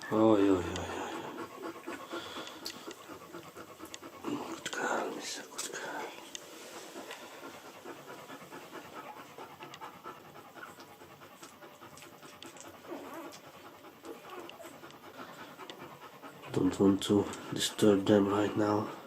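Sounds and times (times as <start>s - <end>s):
dog panting softly: 0.0s - 19.0s.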